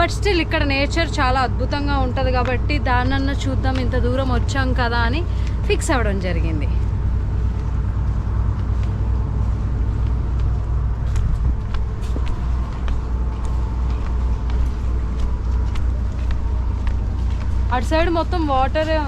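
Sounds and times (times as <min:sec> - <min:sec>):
faint constant hum: 0:00.0 - 0:19.0
low engine rumble: 0:00.0 - 0:19.0.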